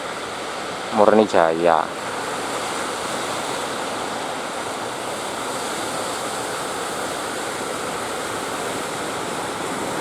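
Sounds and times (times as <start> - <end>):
heavy sea surf roaring: 0.0 - 10.0
strong wind: 0.0 - 10.0.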